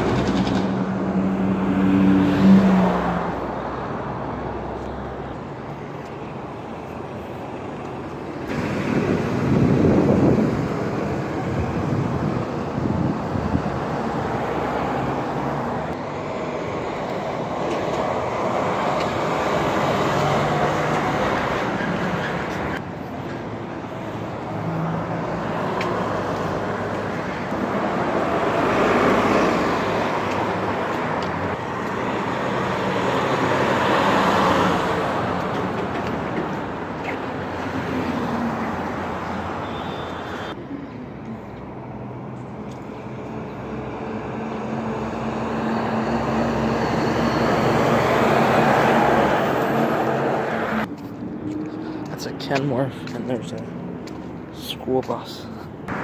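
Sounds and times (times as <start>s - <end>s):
bus driving past: 0.0s - 54.7s, 55.6s - 56.0s.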